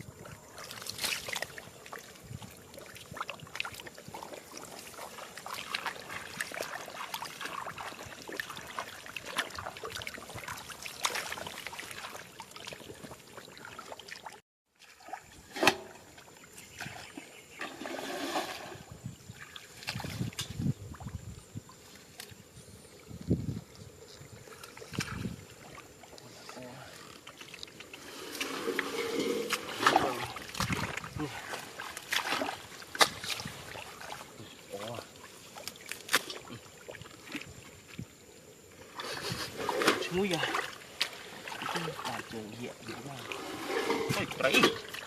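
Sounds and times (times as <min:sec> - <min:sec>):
water splashing and trickling: 0:00.0 - 0:45.0.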